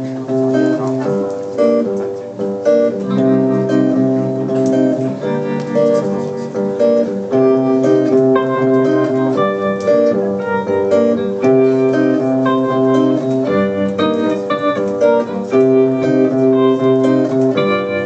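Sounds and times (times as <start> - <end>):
picked guitar notes: 0.0 - 18.0
sustained keyboard chords: 0.0 - 18.0.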